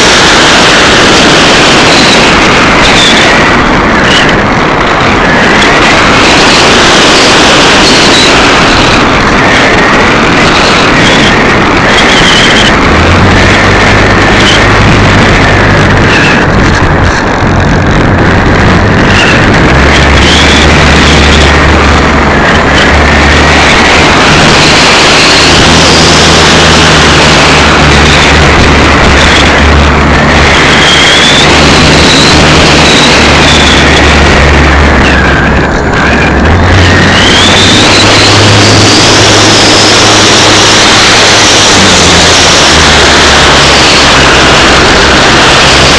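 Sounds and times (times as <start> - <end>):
faint steady whine: 0.0 - 45.9
wind rushing over microphone: 0.0 - 45.9.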